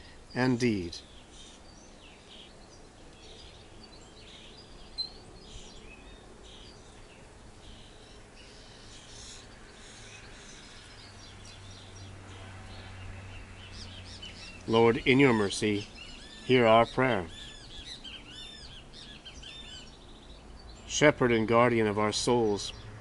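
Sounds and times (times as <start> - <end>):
birds chirping: 0.0 - 23.0
faint outdoor background noise: 0.0 - 23.0.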